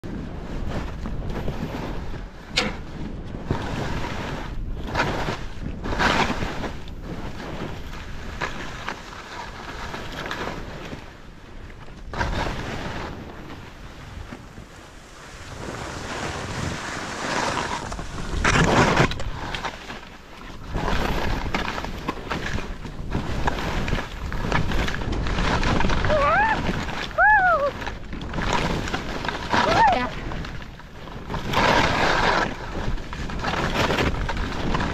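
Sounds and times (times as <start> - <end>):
wind buffeting microphone: 0.0 - 34.9
skis swishing through powder snow: 0.1 - 2.2, 2.9 - 34.9.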